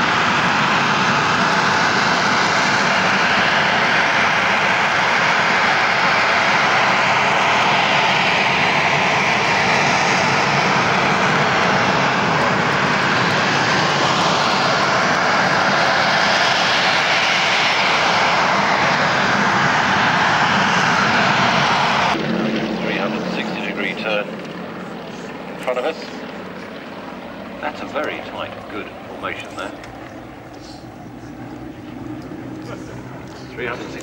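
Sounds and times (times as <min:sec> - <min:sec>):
aircraft engine passing low: 0:00.0 - 0:34.0.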